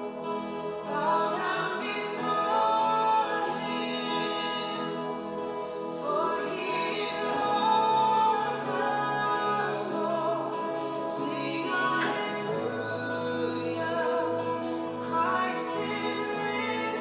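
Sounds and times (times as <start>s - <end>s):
people singing worship song: 0.0s - 17.0s
sustained instrumental chords: 0.0s - 17.0s.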